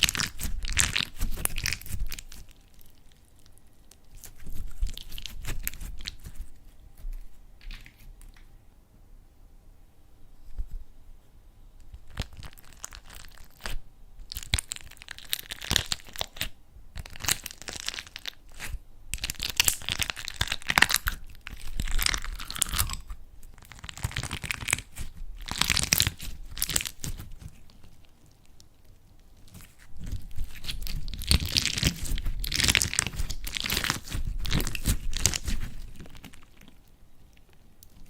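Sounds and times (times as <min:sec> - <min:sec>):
slime squeezed by hand crackling: 0:00.0 - 0:08.1, 0:11.9 - 0:36.8.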